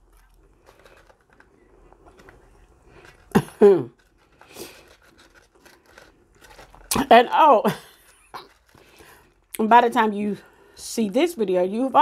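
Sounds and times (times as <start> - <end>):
faint eating and handling noises: 0.0 - 12.0.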